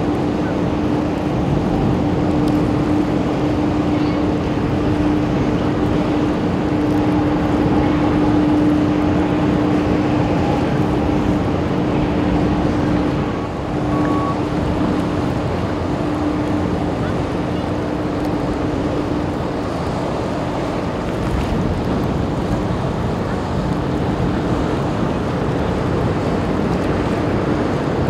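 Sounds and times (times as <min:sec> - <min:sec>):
ship engines humming: 0:00.0 - 0:28.0.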